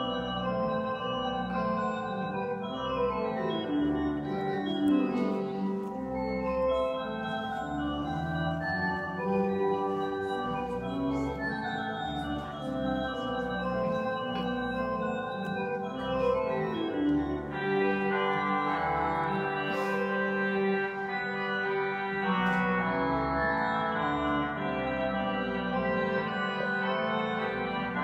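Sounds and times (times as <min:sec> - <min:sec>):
organ music: 0:00.0 - 0:28.0.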